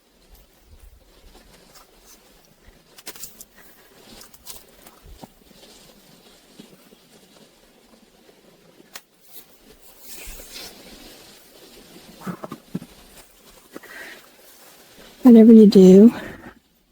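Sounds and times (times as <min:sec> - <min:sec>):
rustle: 0:00.0 - 0:16.9.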